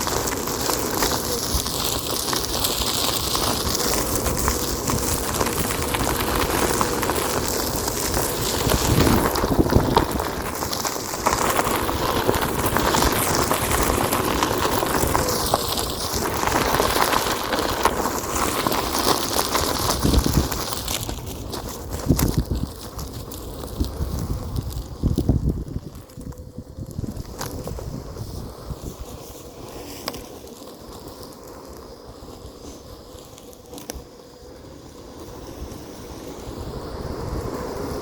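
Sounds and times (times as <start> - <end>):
grit ticking under tyre: 0.0 - 38.0
tyre crunching over gravel: 0.0 - 38.0.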